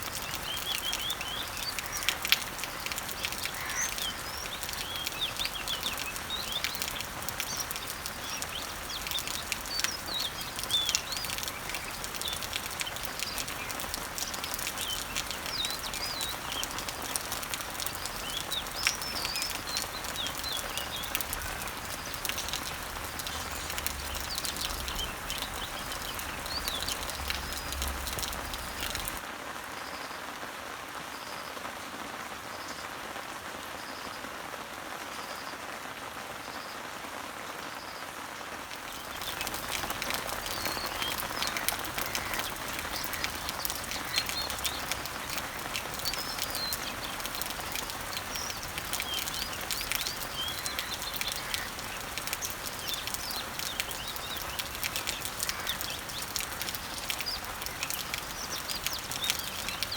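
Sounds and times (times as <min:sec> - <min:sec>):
small birds chirping: 0:00.0 - 0:29.2, 0:38.7 - 0:59.9
rain on leaves: 0:00.0 - 0:59.9.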